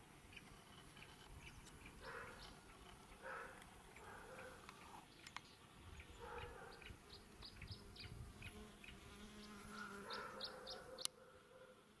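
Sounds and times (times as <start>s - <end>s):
fly buzzing: 0.0s - 12.0s
small birds chirping: 0.2s - 11.4s.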